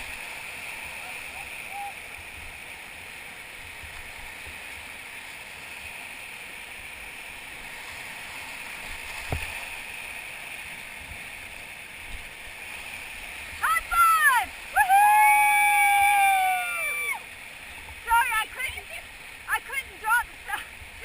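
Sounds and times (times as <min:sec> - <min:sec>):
whitewater river rushing: 0:00.0 - 0:21.0.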